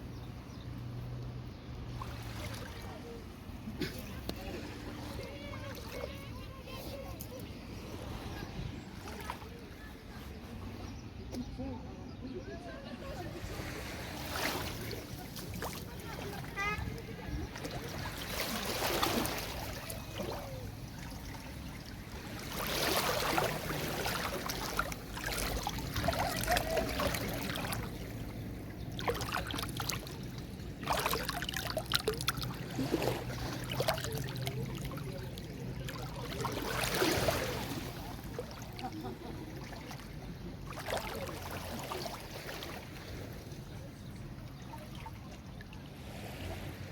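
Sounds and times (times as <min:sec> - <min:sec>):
sea waves breaking on beach: 0:01.8 - 0:09.8, 0:13.0 - 0:43.9, 0:45.9 - 0:46.9.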